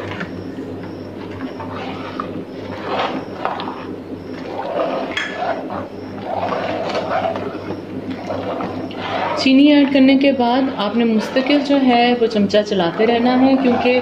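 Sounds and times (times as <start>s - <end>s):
milk sloshing in a pot: 1.2s - 14.0s
metal spoon scraping a pot: 1.6s - 14.0s.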